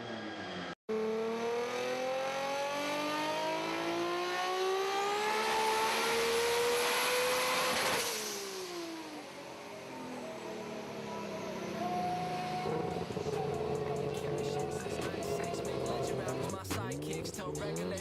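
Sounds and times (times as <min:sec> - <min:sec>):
car engine accelerating past: 0:00.0 - 0:16.5.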